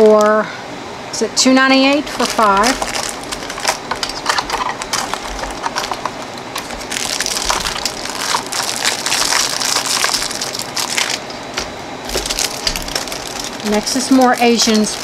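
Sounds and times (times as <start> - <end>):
cellophane crinkling: 1.7 - 15.0.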